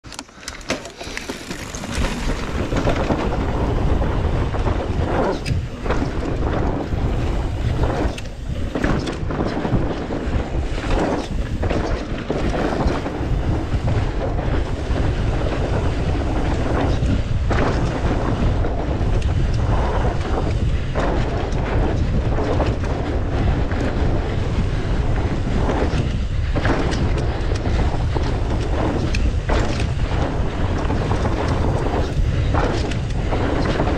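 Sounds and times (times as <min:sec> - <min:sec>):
bike tyres rumbling over dirt: 0:00.0 - 0:33.9
wind buffeting microphone: 0:01.3 - 0:33.9.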